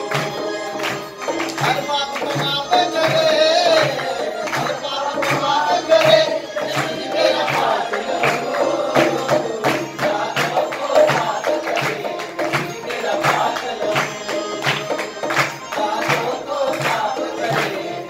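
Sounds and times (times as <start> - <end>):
hand clapping: 0.0 - 18.0
hand drum beat: 0.0 - 18.0
men singing devotional song: 0.0 - 18.0.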